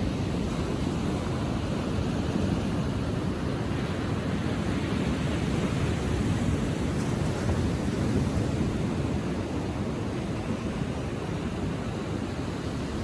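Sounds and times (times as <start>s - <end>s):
ocean surf washing onto beach: 0.0s - 13.0s.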